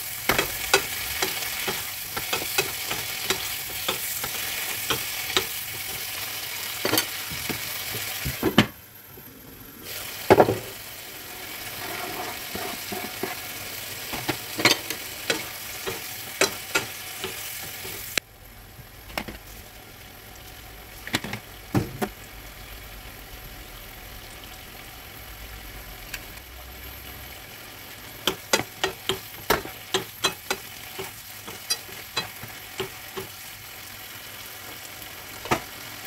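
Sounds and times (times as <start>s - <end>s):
vegetables sizzling in a frying pan: 0.0s - 8.6s, 9.8s - 36.0s.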